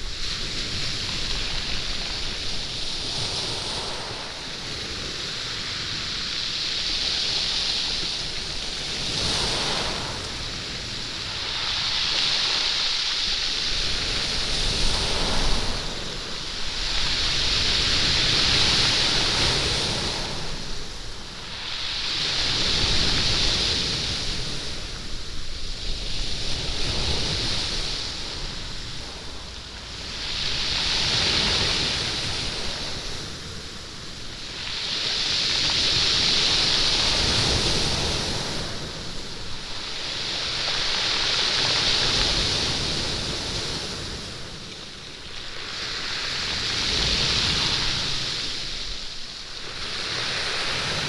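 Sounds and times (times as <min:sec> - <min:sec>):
waves rattling pebbles: 0:00.0 - 0:51.0.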